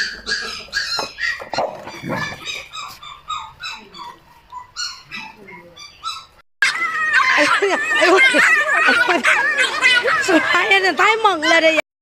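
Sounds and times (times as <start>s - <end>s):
dog yelping and whimpering: 0.0s - 10.7s.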